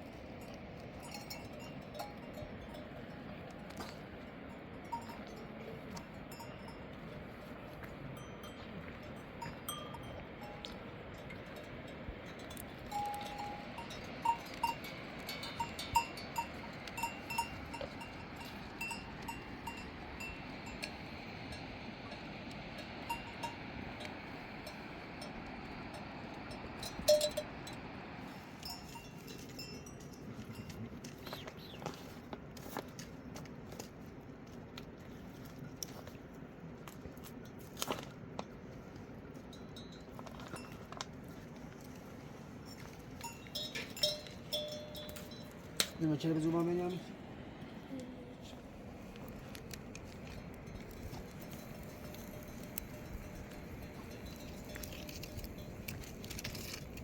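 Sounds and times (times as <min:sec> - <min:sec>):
sheep bells clinking: 0:00.2 - 0:31.9, 0:39.3 - 0:47.1, 0:49.4 - 0:57.0.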